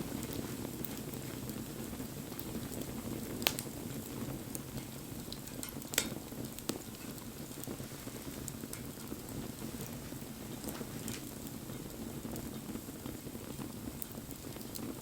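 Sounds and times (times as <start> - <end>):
fire crackles and pops: 0.0 - 15.0
wood fire flame rushing: 0.0 - 15.0.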